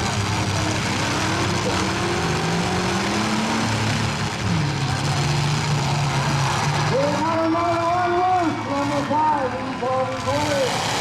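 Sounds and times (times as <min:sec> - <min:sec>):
steady noisy din: 0:00.0 - 0:11.0
truck engines revving: 0:00.0 - 0:11.0.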